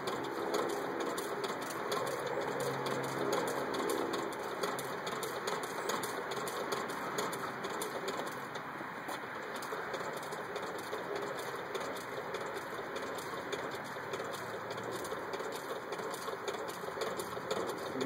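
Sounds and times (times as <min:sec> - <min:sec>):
treadle sewing machine clicking: 0:00.0 - 0:18.0.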